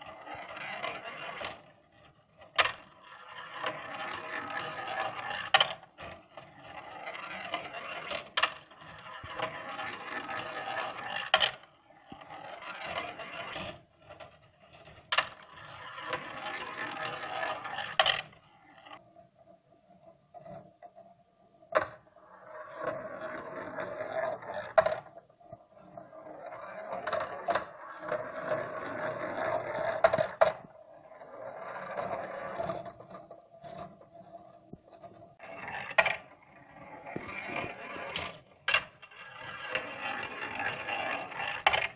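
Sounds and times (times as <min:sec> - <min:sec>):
steel balls rolling on plastic track: 0:00.0 - 0:41.9.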